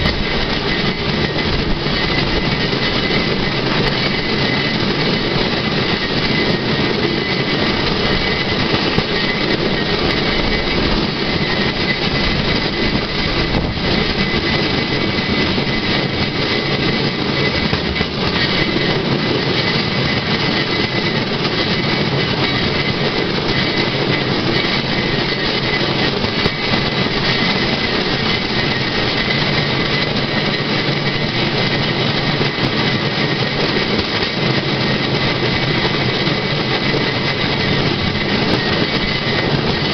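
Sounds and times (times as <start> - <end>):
steel wheels rolling on rails: 0.0 - 39.9.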